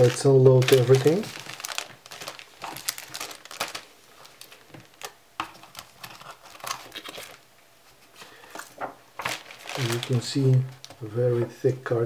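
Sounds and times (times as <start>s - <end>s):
plastic bags crinkling: 0.0s - 7.4s, 8.5s - 11.0s
paper rustling: 0.0s - 11.0s.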